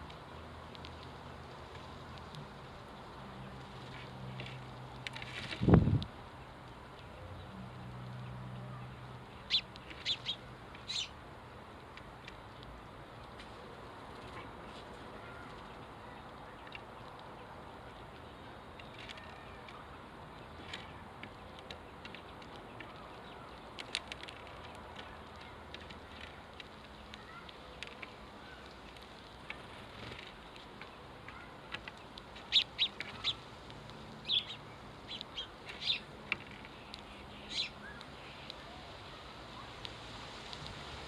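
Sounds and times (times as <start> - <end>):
sparrows chirping: 6.4 - 39.8.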